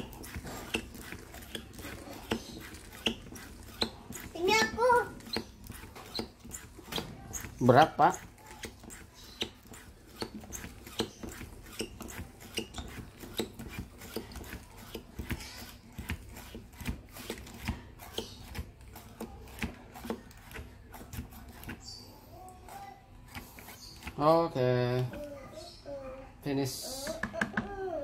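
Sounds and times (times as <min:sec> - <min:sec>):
hand pump clicking and rasping: 0:00.0 - 0:22.0, 0:22.8 - 0:24.4.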